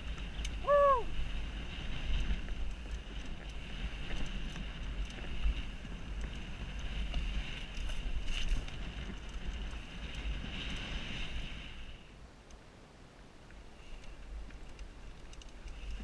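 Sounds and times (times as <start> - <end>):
wind buffeting camera: 0.0 - 12.7, 13.5 - 16.0.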